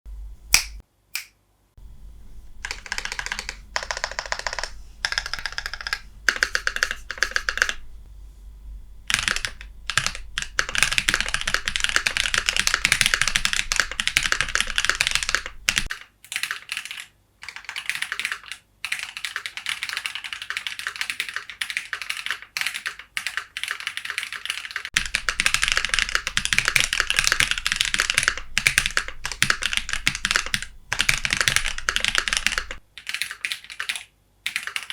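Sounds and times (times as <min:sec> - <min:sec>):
mechanical keyboard typing: 0:01.8 - 0:07.9, 0:09.0 - 0:34.9.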